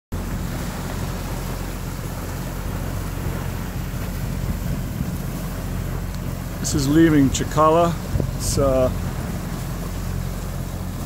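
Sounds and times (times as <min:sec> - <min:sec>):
boat engine humming: 0:00.1 - 0:11.0
wind and water rushing: 0:00.1 - 0:11.0.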